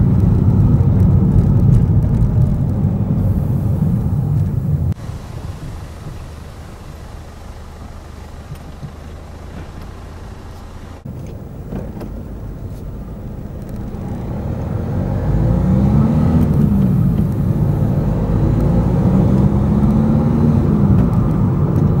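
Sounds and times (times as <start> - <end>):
car engine accelerating: 0.0 - 22.0
road noise: 0.0 - 22.0.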